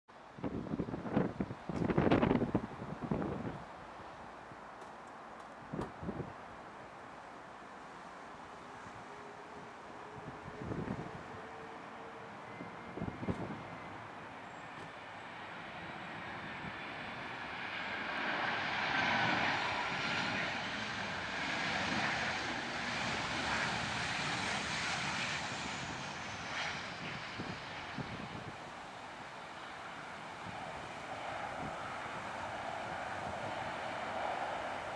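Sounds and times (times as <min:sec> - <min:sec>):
jet engines roaring: 0:01.9 - 0:34.9.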